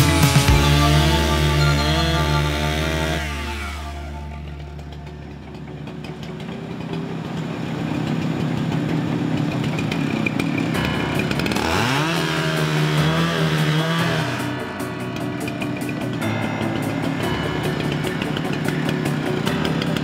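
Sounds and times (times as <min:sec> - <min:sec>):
chainsaw cutting log: 0:00.0 - 0:07.0, 0:08.2 - 0:20.0.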